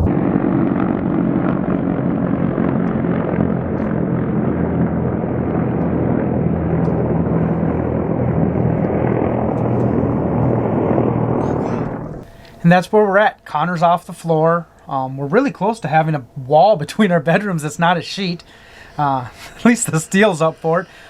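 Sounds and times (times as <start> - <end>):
loud mechanical drone: 0.0 - 12.7, 15.8 - 21.0
low hum: 0.0 - 21.0.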